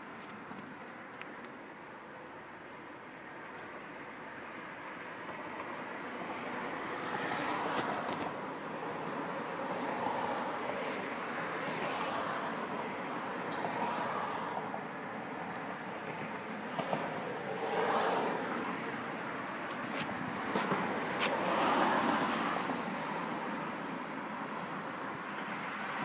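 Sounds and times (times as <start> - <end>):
outdoor street noise: 0.0 - 26.0.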